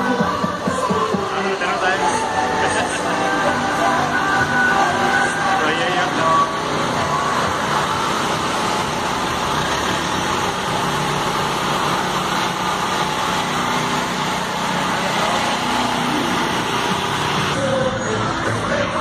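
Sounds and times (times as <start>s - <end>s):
road noise: 0.0s - 19.0s
truck engines running: 0.0s - 19.0s.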